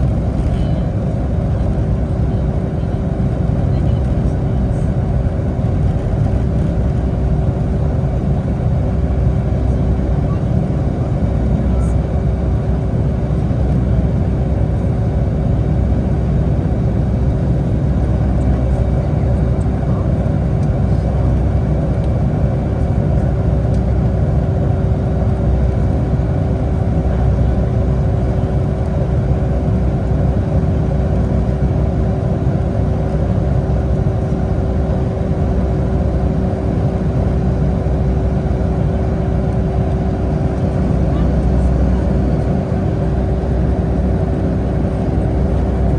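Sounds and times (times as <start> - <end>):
aircraft cabin engine rumble: 0.0 - 45.9
mid-pitched hum: 0.0 - 45.9.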